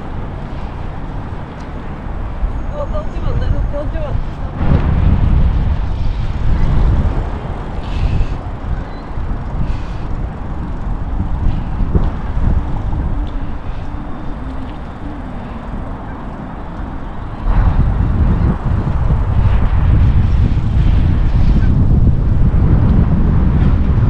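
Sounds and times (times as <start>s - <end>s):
road traffic: 0.0s - 24.0s
wind rumbling on microphone: 0.0s - 24.0s.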